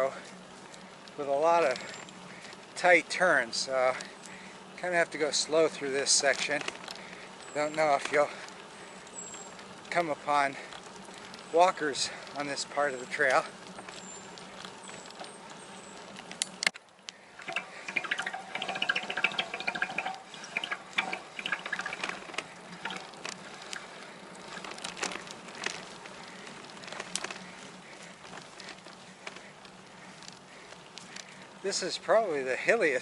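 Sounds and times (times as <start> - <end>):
bicycle tyres crunching on dirt: 0.0 - 33.0
bike ticking and rattling: 0.0 - 33.0.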